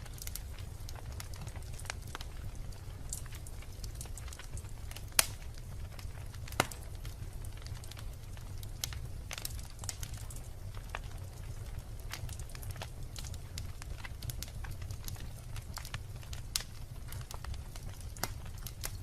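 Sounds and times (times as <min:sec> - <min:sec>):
loud pops of burning wood: 0:00.0 - 0:19.0
low rumble of flames: 0:00.0 - 0:19.0
wood fire crackling: 0:00.0 - 0:19.0.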